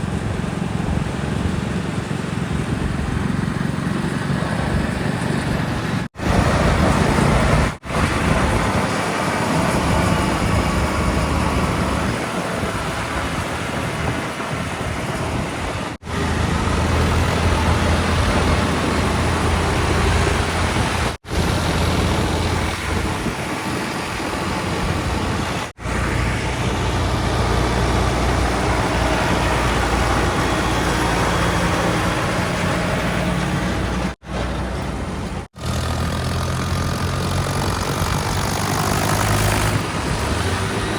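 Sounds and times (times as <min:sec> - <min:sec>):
heavy diesel engines humming: 0:00.0 - 0:40.9.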